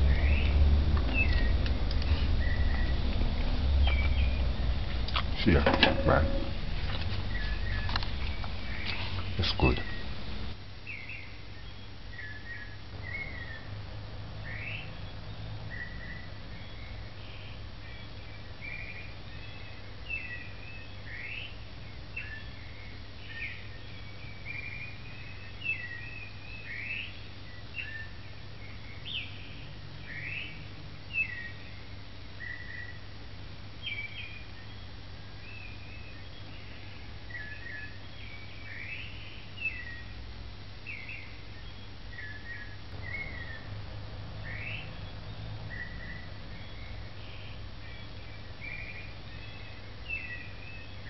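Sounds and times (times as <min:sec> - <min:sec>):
birds chirping and whistling: 0:00.0 - 0:04.6, 0:05.4 - 0:10.1, 0:10.8 - 0:13.8, 0:14.4 - 0:33.0, 0:33.8 - 0:40.1, 0:40.8 - 0:51.0
steady low hum: 0:00.0 - 0:51.0.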